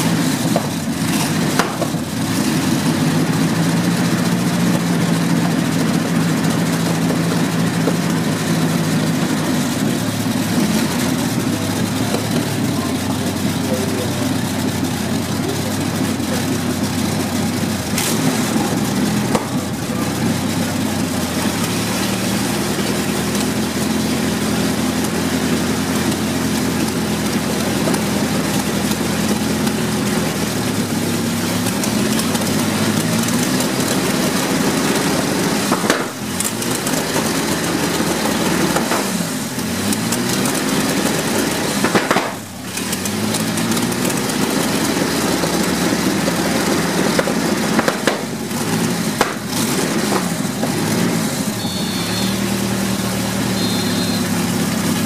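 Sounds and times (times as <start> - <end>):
racing car engine idling unevenly: 0.0 - 55.0.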